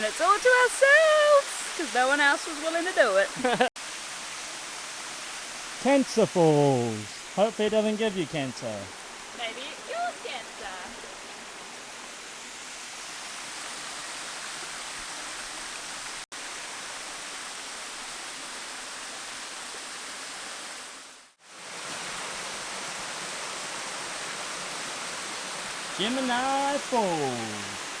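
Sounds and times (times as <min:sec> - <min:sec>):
small waterfall pouring into stream: 0:00.0 - 0:07.6, 0:08.4 - 0:28.0.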